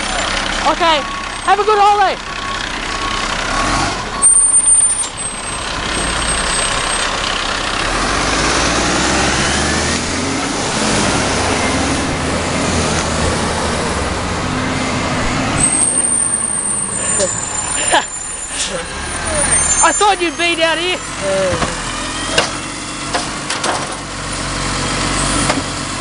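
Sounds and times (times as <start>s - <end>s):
garbage truck engine passing: 0.0s - 26.0s.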